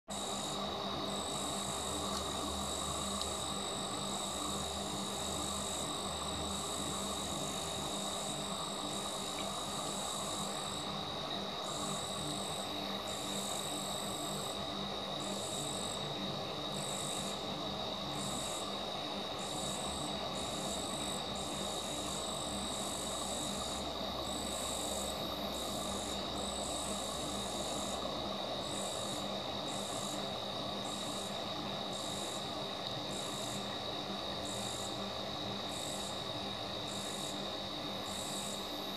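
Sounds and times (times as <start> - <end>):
higher insect trill: 0.1 - 38.9.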